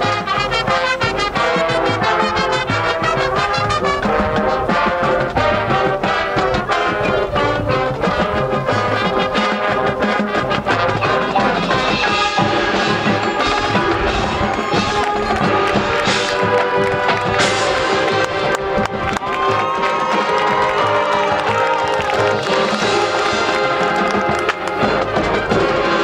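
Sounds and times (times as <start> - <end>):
drumline beat: 0.0 - 26.0
marching band brass chords: 0.0 - 26.0.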